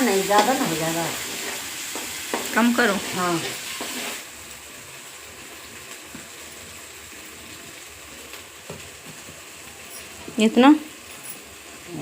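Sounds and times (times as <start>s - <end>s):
ghee sizzling: 0.0s - 12.0s.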